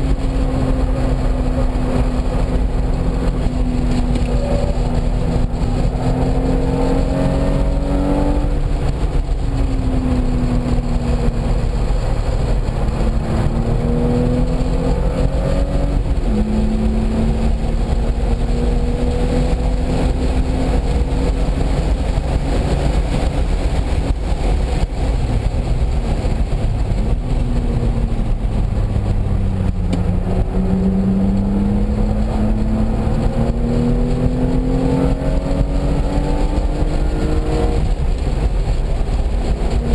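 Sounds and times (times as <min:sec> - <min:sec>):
low road and wind rumble: 0:00.0 - 0:39.9
race car engine accelerating: 0:00.0 - 0:39.9.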